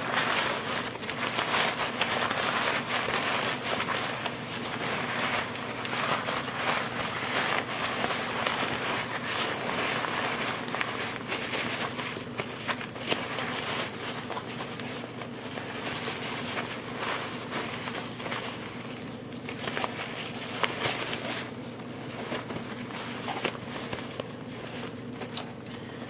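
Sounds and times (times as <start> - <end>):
nylon fabric rustling and crinkling: 0.0 - 25.6.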